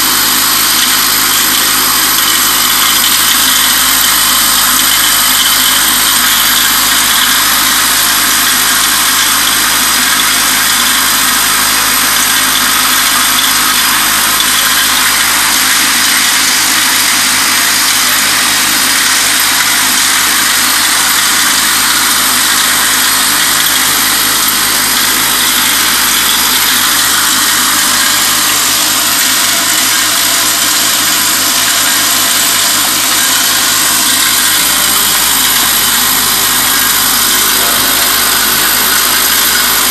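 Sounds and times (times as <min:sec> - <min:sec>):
vibratory feeder buzzing: 0:00.0 - 0:39.9.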